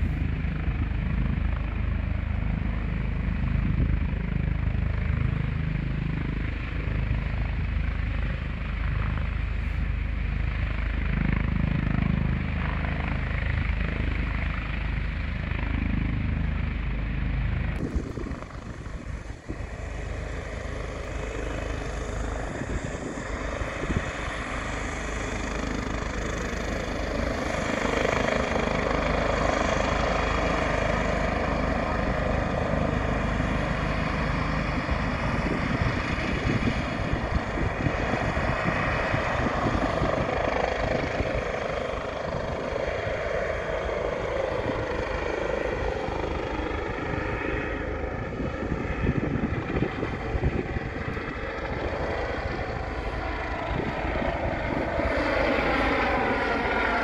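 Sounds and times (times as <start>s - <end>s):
helicopter turbine and rotor noise: 0.0s - 57.0s.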